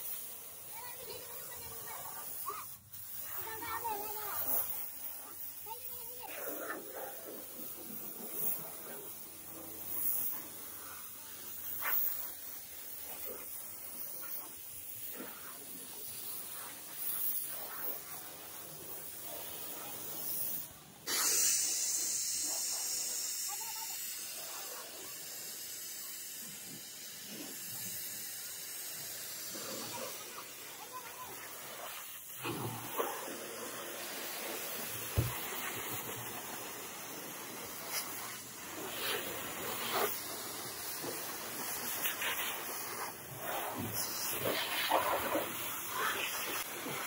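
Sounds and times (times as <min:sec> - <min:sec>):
pressure washer spray hissing: 0:00.0 - 0:47.0.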